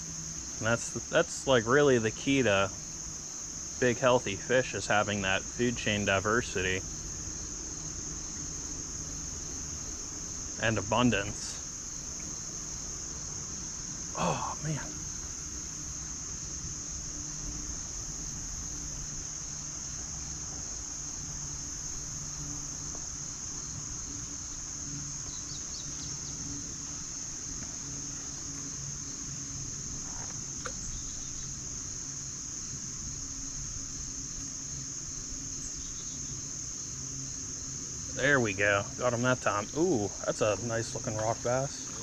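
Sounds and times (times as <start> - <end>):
faint low hum: 0.0 - 42.0
insects buzzing: 0.0 - 42.0.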